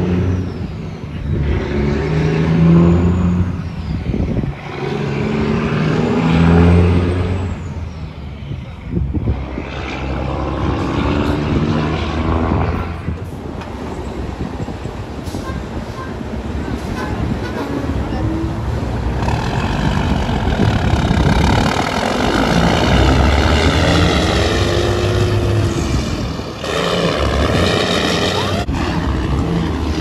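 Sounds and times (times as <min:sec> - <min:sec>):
diesel truck accelerating: 0:00.0 - 0:30.0.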